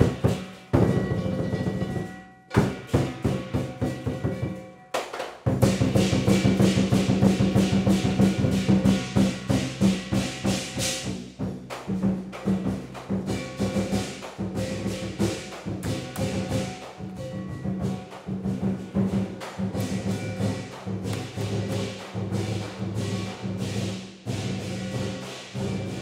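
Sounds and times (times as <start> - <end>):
cymbals clashing: 0.0 - 26.0
drum beaten fast: 0.0 - 26.0.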